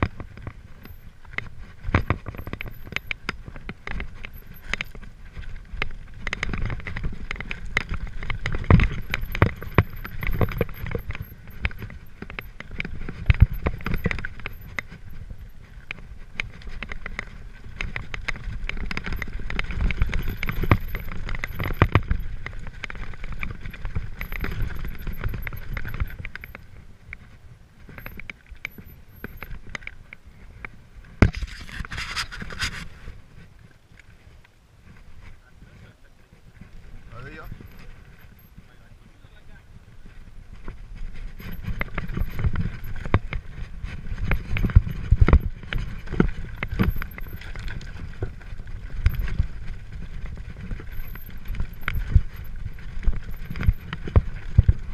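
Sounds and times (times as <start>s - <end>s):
bike knocking on rocks: 0.0s - 32.8s, 40.0s - 54.9s
bike rattling and clattering: 0.0s - 54.9s
tyres crunching over loose stones: 0.0s - 54.9s.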